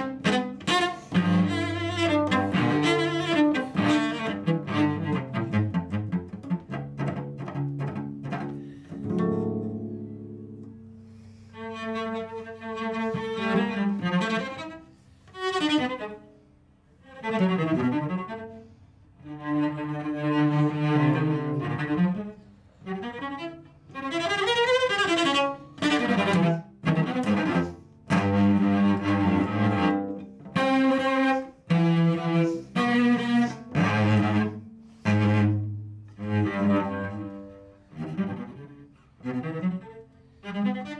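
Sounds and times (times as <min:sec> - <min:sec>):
bowed cello: 0:00.0 - 0:40.9.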